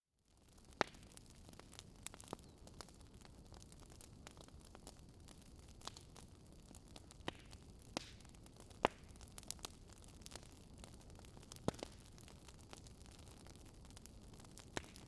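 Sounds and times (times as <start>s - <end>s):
faint wood fire crackling: 0.2s - 15.0s.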